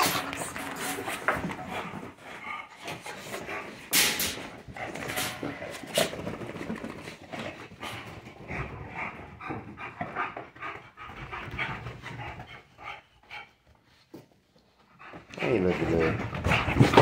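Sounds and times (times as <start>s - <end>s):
dogs moving and whimpering: 0.0s - 17.0s.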